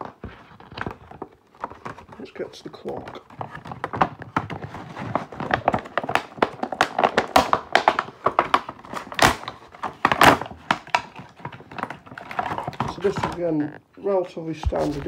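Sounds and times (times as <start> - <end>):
packaging rustling scrapes: 0.0 - 13.5, 14.5 - 15.0.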